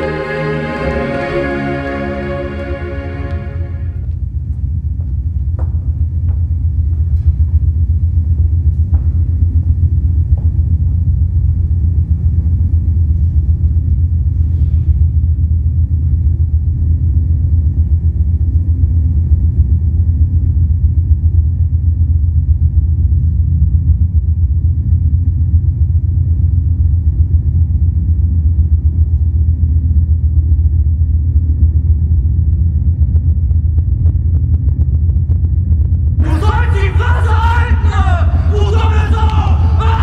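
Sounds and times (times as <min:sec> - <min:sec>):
deep fluttering rumble: 0:03.8 - 0:37.0.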